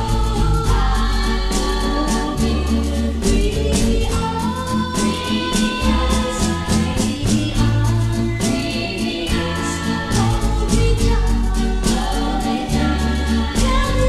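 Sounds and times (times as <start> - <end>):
pop song with band: 0.0 - 14.0.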